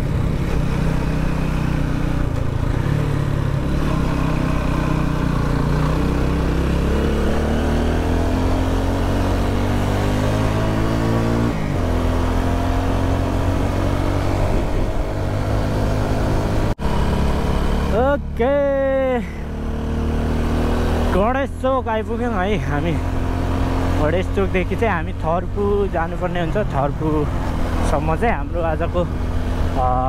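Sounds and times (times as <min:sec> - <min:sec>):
road and wind noise: 0:00.0 - 0:30.0
vehicle engine accelerating: 0:00.0 - 0:30.0.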